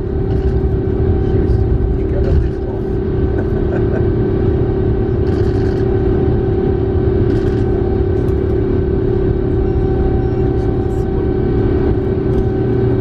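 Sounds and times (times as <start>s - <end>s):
airplane engines roaring: 0.0s - 13.0s
droning hum: 0.0s - 13.0s.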